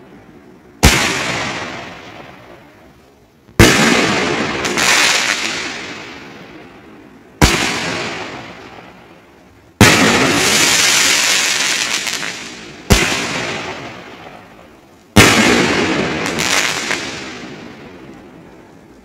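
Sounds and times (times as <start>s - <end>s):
firework bangs: 0.0s - 2.9s, 3.5s - 18.7s
firework crackling: 0.0s - 19.0s.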